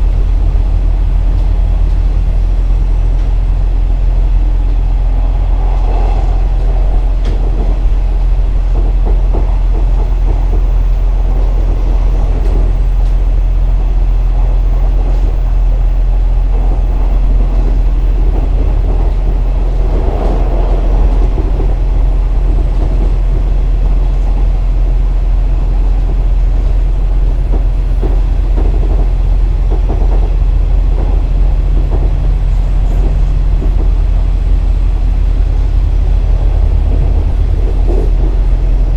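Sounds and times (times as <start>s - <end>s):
diesel engine drone: 0.0s - 38.9s
rail joint clicks: 0.0s - 38.9s
wheels rumbling on rail: 0.0s - 38.9s.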